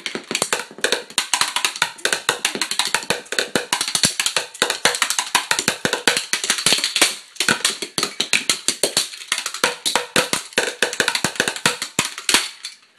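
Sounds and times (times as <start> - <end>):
drumsticks hitting plastic toys: 0.0 - 12.9.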